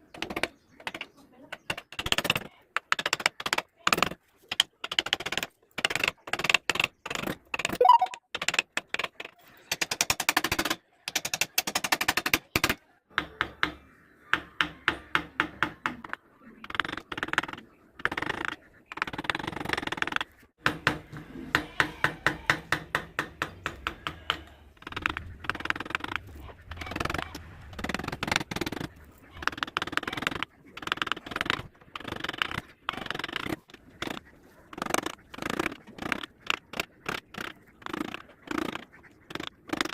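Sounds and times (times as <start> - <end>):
carving tools clicking on wood: 0.0 - 39.9.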